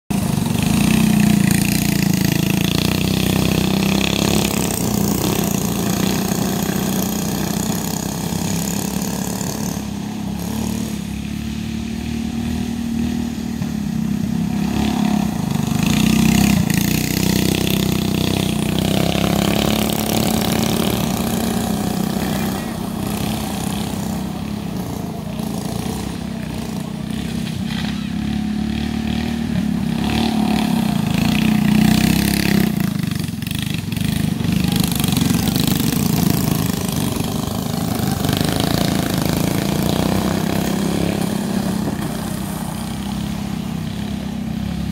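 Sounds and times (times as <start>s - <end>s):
go-kart engine running: 0.0s - 44.9s.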